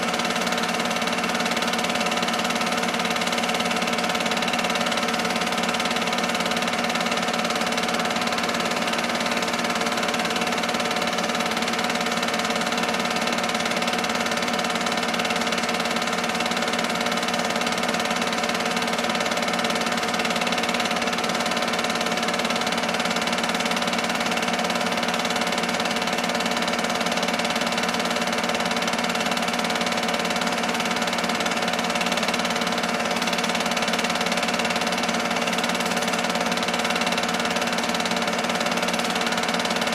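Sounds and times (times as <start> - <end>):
film projector hum and whir: 0.0 - 39.9.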